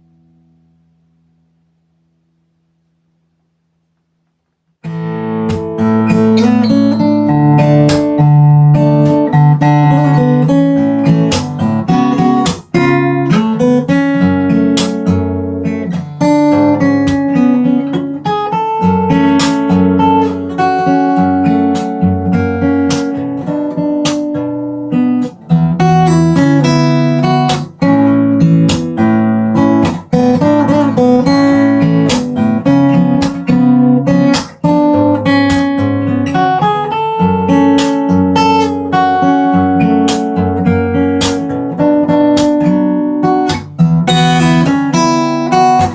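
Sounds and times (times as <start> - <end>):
acoustic guitar strumming chords: 4.2 - 45.9.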